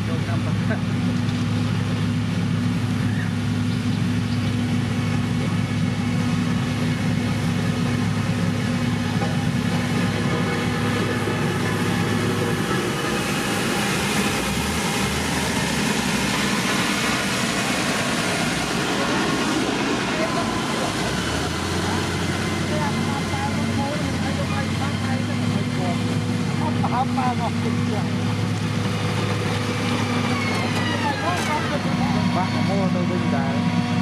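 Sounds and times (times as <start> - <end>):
constant mechanical noise: 0.0 - 34.0
heavy machine engine running: 0.0 - 34.0.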